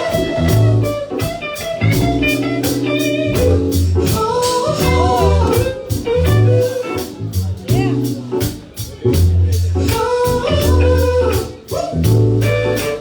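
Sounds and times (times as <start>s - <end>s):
bass guitar: 0.0s - 13.0s
drum-kit beat: 0.0s - 13.0s
electric guitar lead: 0.0s - 13.0s.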